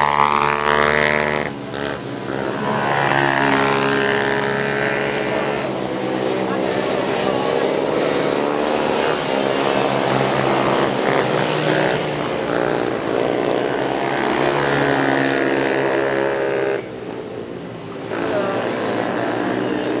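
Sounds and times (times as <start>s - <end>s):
racing quad engines revving: 0.0s - 20.0s.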